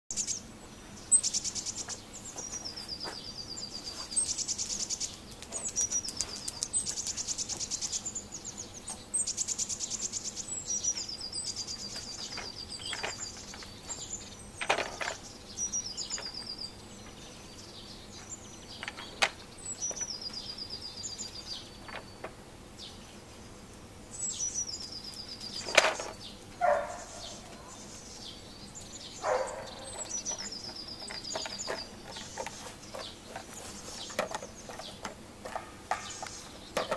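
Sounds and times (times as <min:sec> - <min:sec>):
songbirds singing trills: 0:00.1 - 0:36.9.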